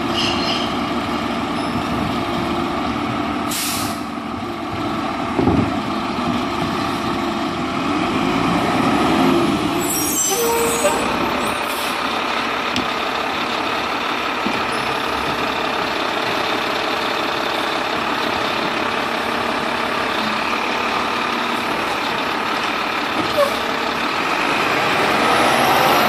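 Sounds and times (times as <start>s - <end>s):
diesel garbage truck engine: 0.0s - 26.0s.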